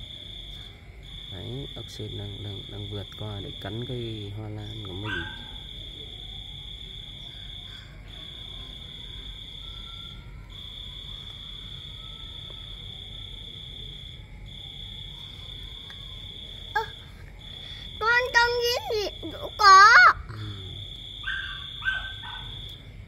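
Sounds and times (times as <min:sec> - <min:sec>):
high insect trill: 0:00.0 - 0:23.0
low steady insect tone: 0:00.0 - 0:23.0.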